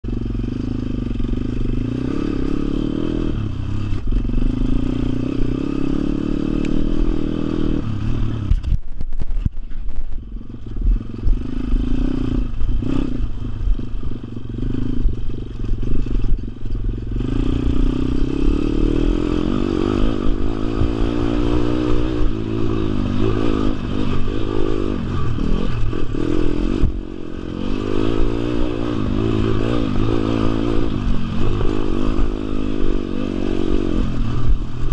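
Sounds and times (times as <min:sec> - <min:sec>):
motorbike engine revving: 0:00.0 - 0:34.9.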